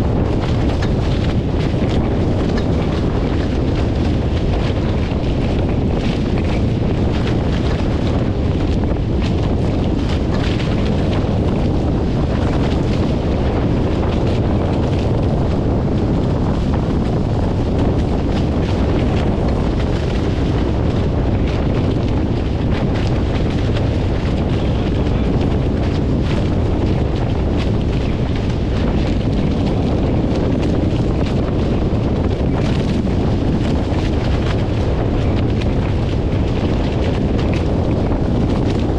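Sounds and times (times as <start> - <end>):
wind buffeting microphone: 0.0 - 38.9
small crackles: 0.2 - 15.6, 17.5 - 38.9.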